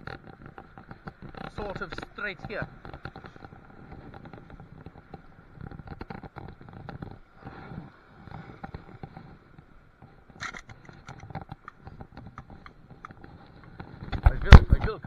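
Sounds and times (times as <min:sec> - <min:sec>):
gear scraping and clicking: 0:00.0 - 0:15.0.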